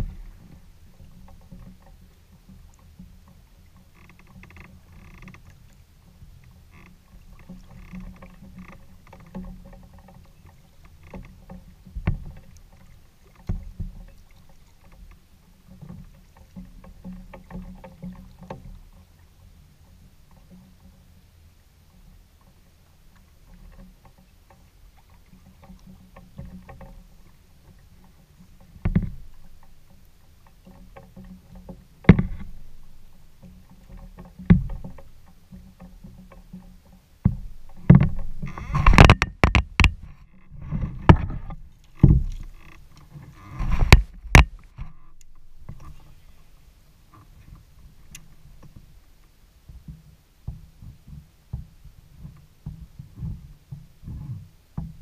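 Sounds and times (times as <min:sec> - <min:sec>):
kayak paddle splashes and knocks: 0:00.0 - 0:21.3, 0:21.9 - 0:55.0.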